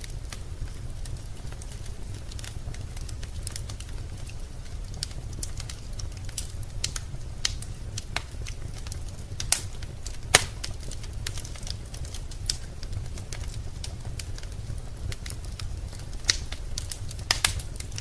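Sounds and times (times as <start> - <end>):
fire popping and snapping: 0.0 - 18.0
low rumble of burning: 0.0 - 18.0
wood fire crackling: 0.0 - 18.0.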